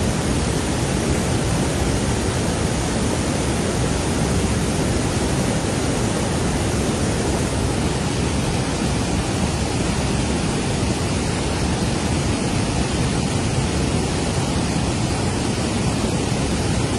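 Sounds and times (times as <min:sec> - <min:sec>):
flood water rushing: 0:00.0 - 0:16.9.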